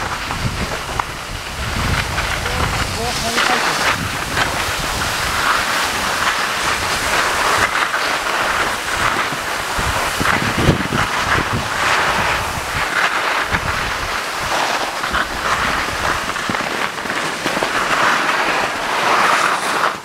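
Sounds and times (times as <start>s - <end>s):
wind on microphone: 0.0s - 19.9s
skis scraping over snow: 0.0s - 20.0s.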